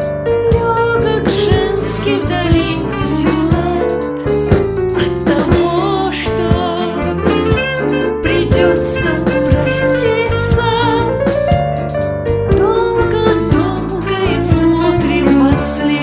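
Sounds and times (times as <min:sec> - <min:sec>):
piano accompaniment: 0:00.0 - 0:16.0
regular beat: 0:00.0 - 0:16.0
person singing with vibrato: 0:00.3 - 0:11.2, 0:12.6 - 0:16.0.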